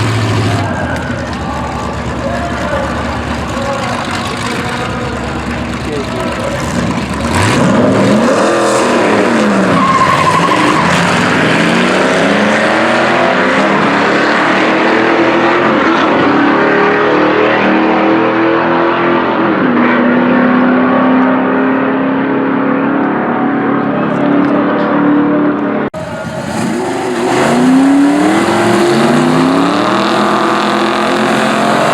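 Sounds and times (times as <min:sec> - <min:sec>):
drag racing car engine revving: 0:00.0 - 0:31.9.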